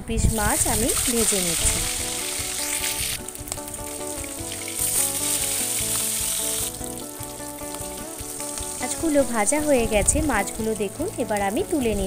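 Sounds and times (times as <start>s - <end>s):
fish sizzling in hot oil: 0.2s - 12.0s.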